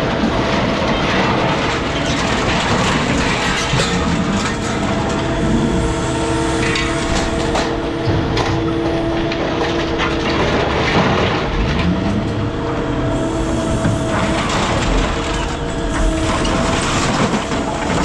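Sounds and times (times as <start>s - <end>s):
heavy machinery engine whine: 0.0s - 18.0s
scrap metal clanking: 0.8s - 18.0s.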